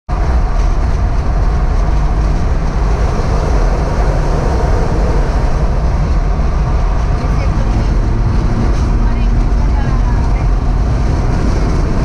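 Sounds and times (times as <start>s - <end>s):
car road and tyre rumble: 0.1s - 12.0s.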